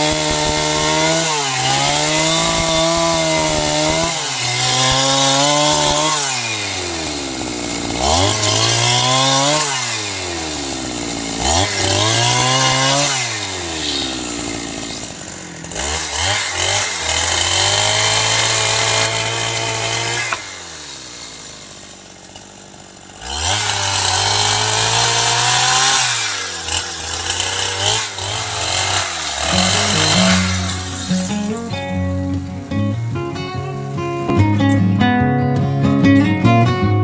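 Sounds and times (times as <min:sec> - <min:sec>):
chainsaw cutting wood: 0:00.0 - 0:35.2.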